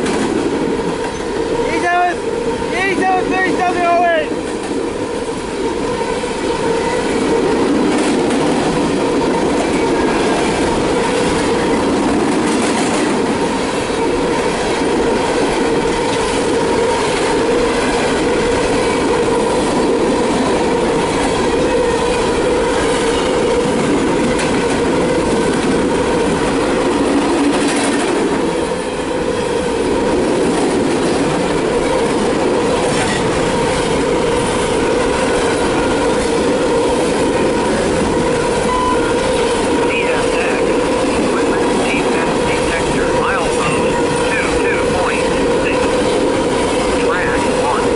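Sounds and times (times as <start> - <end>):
rail joint clicks: 0.0 - 1.6, 3.8 - 47.9
freight train wheels on rails: 0.0 - 47.9.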